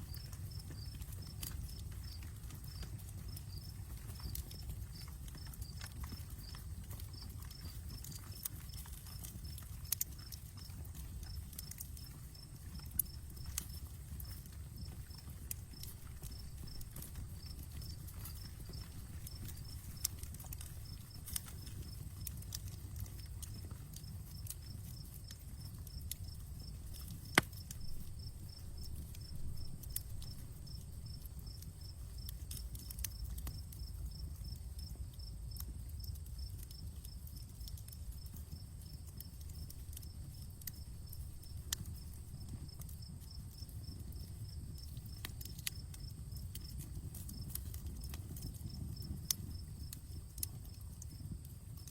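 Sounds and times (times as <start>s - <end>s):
insect chirping: 0.0s - 35.3s, 36.0s - 47.8s
campfire crackling and popping: 0.0s - 51.9s.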